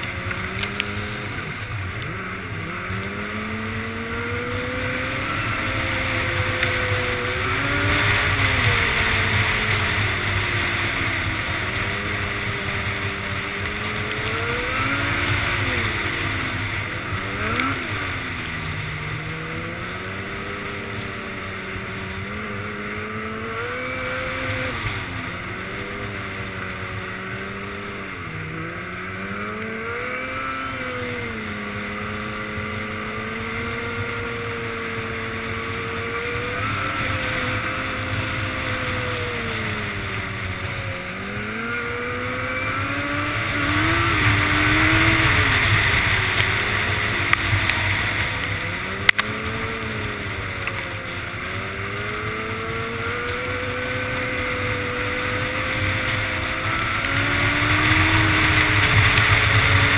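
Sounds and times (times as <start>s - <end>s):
snowmobile engine: 0.0s - 59.9s.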